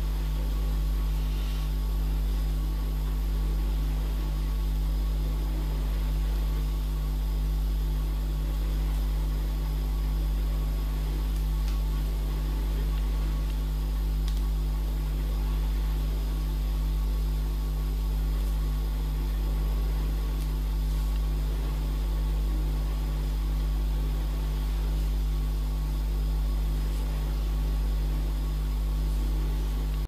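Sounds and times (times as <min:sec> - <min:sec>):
constant hiss: 0:00.0 - 0:30.0
loud electrical hum: 0:00.0 - 0:30.0.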